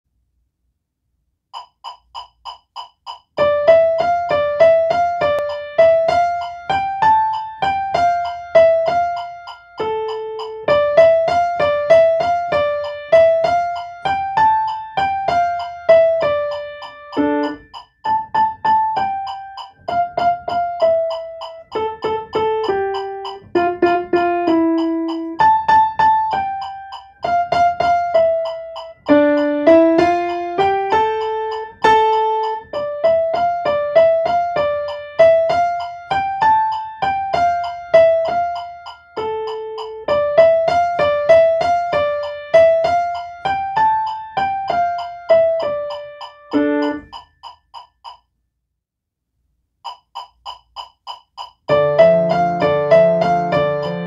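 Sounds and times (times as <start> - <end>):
grand piano playing simple piece: 1.5 - 48.1, 50.1 - 54.0.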